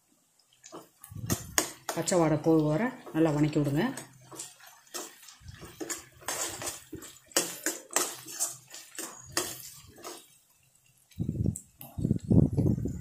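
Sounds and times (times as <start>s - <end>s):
spoon scraping and tapping a wok: 0.6s - 2.3s, 3.0s - 11.9s.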